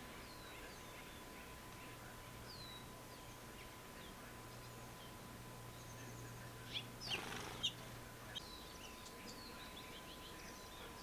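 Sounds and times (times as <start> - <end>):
faint outdoor background: 0.0 - 11.0
songbirds chirping: 0.0 - 11.0.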